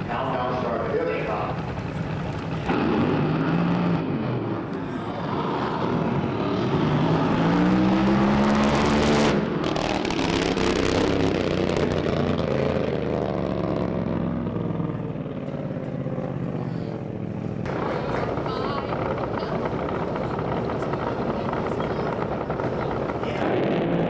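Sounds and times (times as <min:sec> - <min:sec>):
drag boat engine running hard: 0:00.0 - 0:24.0
harsh crackling engine: 0:00.0 - 0:24.0.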